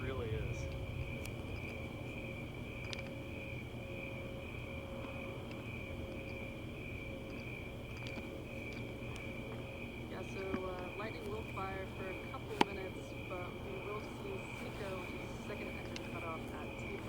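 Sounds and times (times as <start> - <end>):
insects trilling: 0.0 - 17.0
low steady hum: 0.0 - 17.0.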